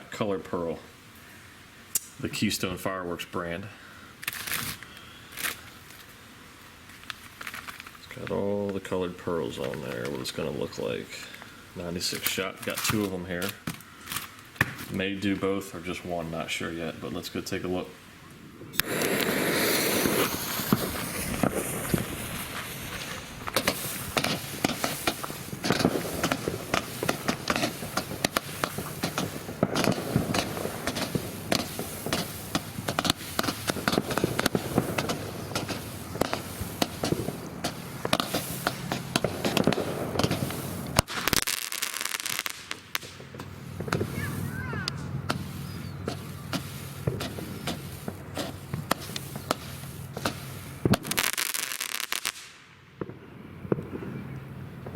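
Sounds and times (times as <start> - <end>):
fireworks launch pops: 4.2 - 6.2, 6.9 - 15.5, 18.6 - 54.9.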